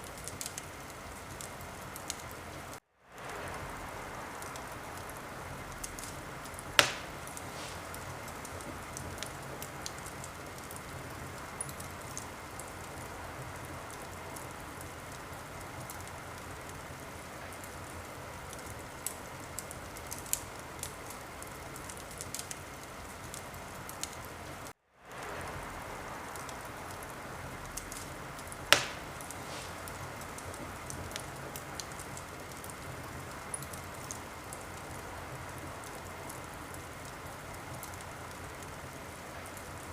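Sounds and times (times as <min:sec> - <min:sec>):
fire pops: 0:00.0 - 0:16.8, 0:17.4 - 0:38.8
wood fire crackling: 0:00.0 - 0:39.9.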